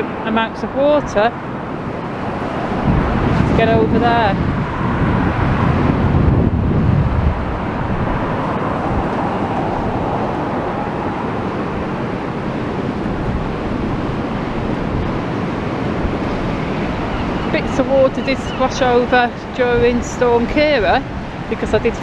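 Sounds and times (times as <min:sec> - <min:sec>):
rough sea surf: 0:00.0 - 0:22.0
wind buffeting microphone: 0:00.0 - 0:22.0.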